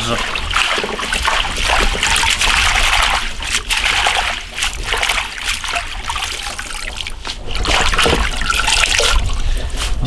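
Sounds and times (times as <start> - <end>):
water splashing in a bowl: 0.0 - 9.4.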